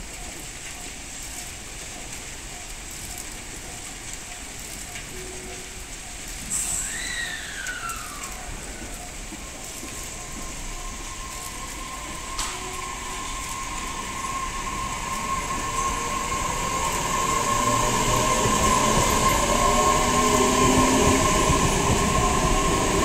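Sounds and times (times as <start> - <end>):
electric train whine: 0.0 - 23.0.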